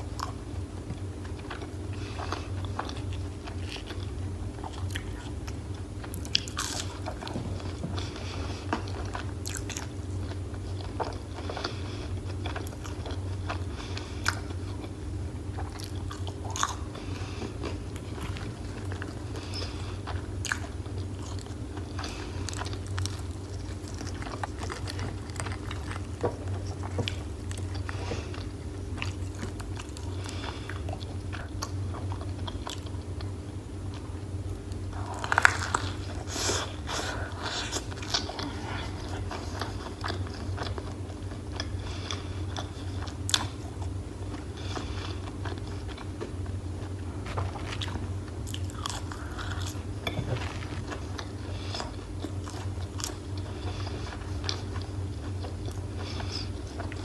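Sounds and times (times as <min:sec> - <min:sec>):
chewing crispy chicken: 0:00.0 - 0:57.0
steady low hum: 0:00.0 - 0:57.0.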